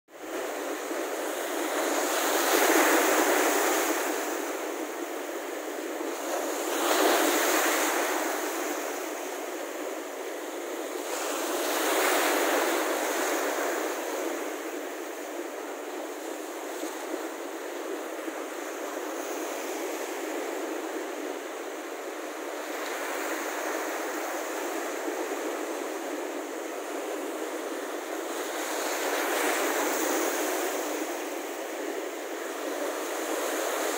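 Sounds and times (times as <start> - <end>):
waves washing over sand: 0.2 - 33.9.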